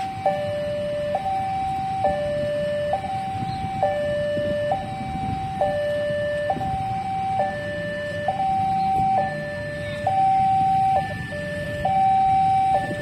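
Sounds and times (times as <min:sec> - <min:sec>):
two-tone electronic warning alarm: 0:00.0 - 0:13.0.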